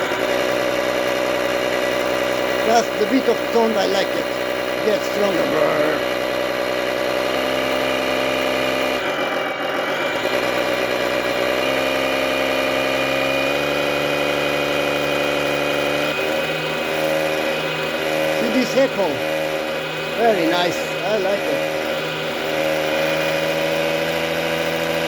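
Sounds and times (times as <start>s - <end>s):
simulated engine from speaker: 0.0s - 25.0s.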